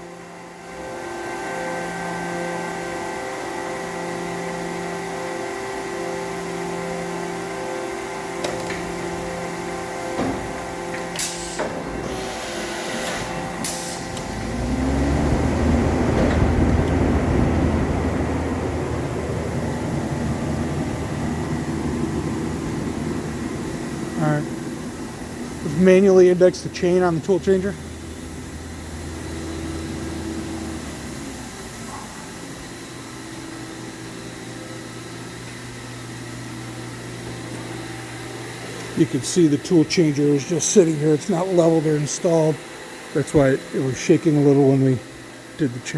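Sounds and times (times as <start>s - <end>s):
machining center mechanical run: 0.7s - 45.9s.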